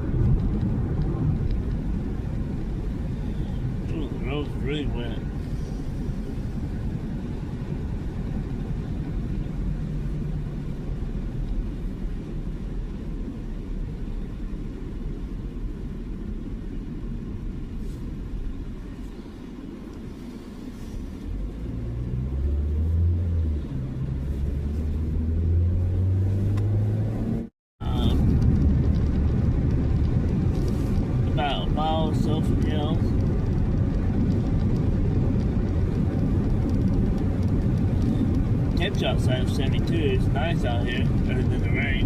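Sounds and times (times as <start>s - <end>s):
car engine hum: 0.0s - 42.0s
tyres rumbling on wet road: 0.0s - 42.0s.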